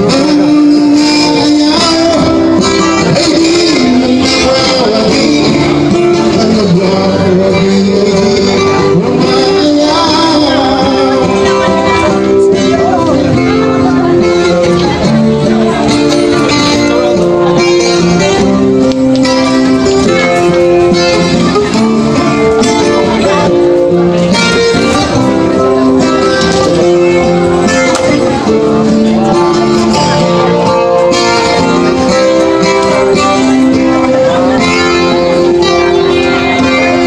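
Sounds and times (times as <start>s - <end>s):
plucked guitar music: 0.0s - 37.0s.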